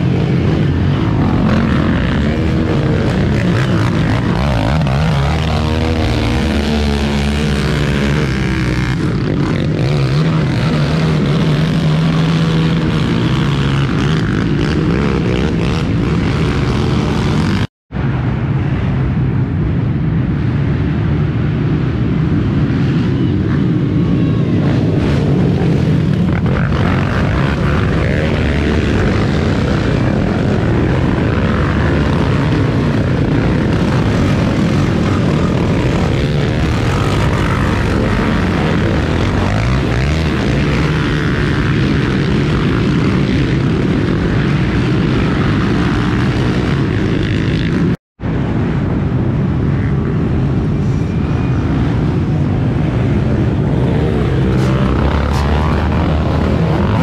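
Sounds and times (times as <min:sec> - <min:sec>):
quad bike engines droning: 0:00.0 - 0:57.0.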